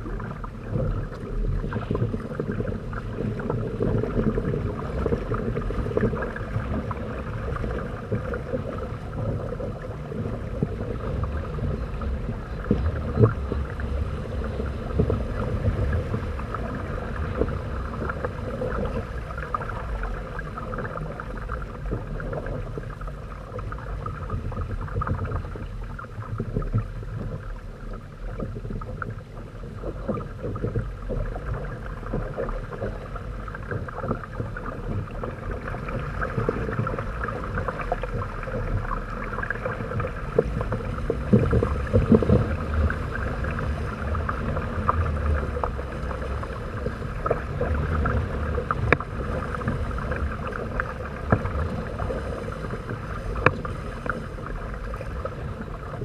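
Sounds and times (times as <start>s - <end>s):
water splashing along hulls: 0.0s - 56.0s.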